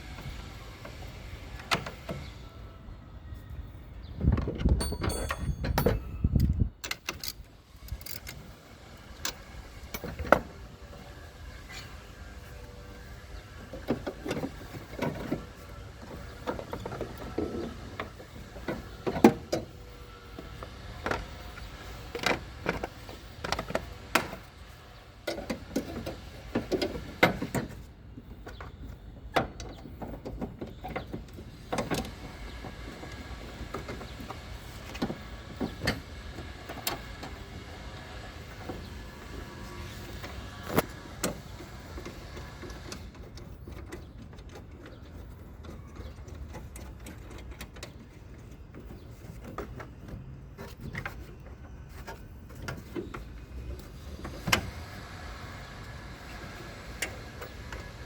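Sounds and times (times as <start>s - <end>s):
hand tools clicking and scraping: 4.8s - 58.0s.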